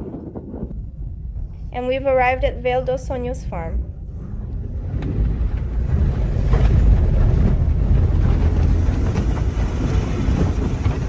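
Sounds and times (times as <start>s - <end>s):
wind buffeting microphone: 0.0s - 11.0s
tyres rumbling on unpaved road: 1.8s - 11.0s.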